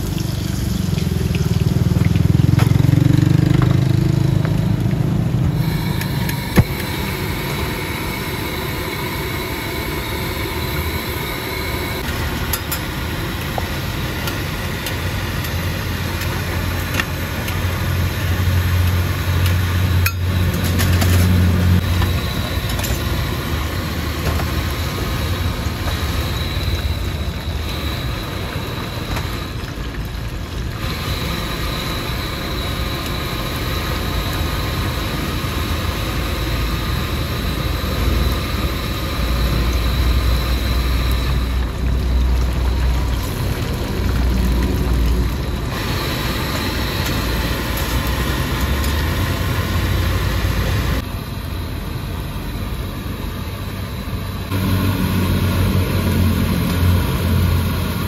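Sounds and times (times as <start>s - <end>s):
batter sizzling in oil: 0.0s - 58.0s.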